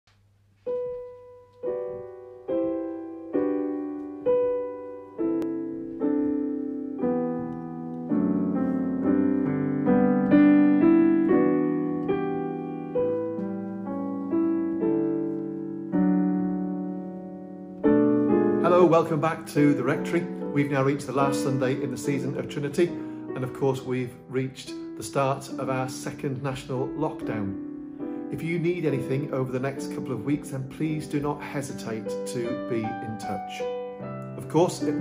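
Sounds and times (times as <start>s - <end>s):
slow solo piano: 0.2s - 35.0s.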